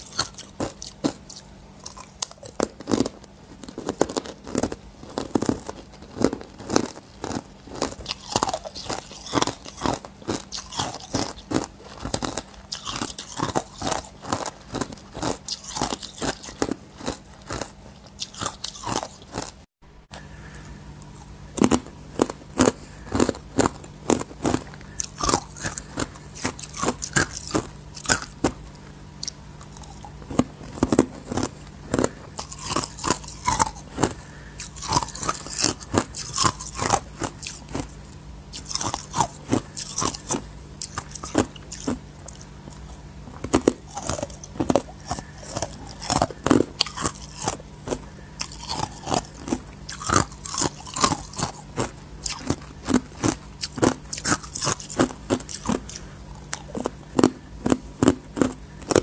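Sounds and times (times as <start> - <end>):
ice crunching between teeth: 0.0 - 19.6, 21.6 - 59.0
faint low hum: 0.0 - 59.0.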